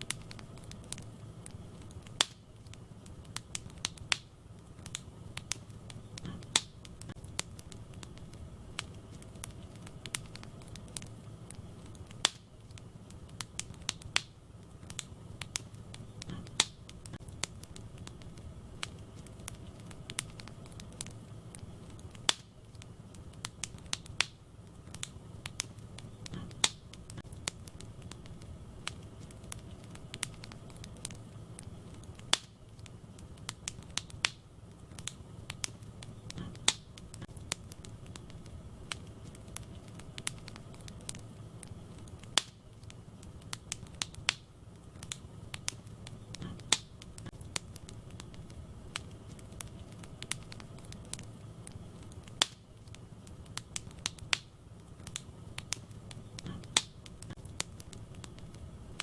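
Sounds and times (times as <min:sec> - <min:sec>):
fire crackling and popping: 0:00.0 - 0:59.0
low sound of flames: 0:00.0 - 0:59.0.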